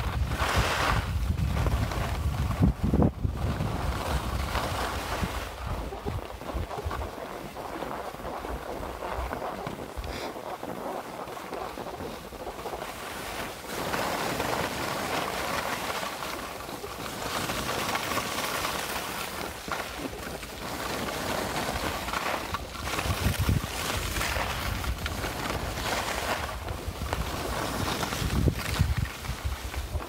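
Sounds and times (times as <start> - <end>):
wind buffeting microphone: 0.0 - 16.2, 19.3 - 30.0
skis scraping over snow: 0.0 - 30.0.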